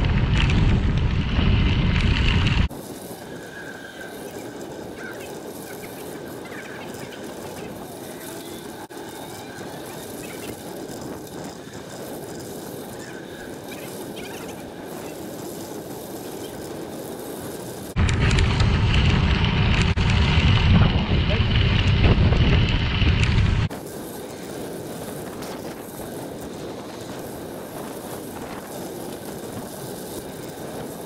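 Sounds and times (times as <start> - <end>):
bicycle tyres crunching gravel: 0.0 - 31.0
wind buffeting microphone: 0.0 - 31.0.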